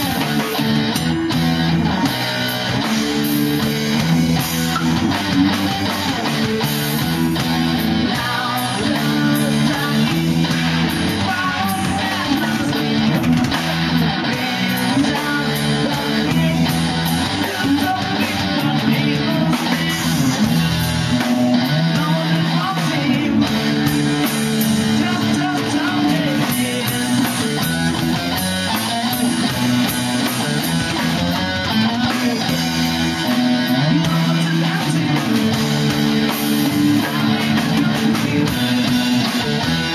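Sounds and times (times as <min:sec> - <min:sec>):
guitar-led rock music: 0:00.0 - 0:39.9.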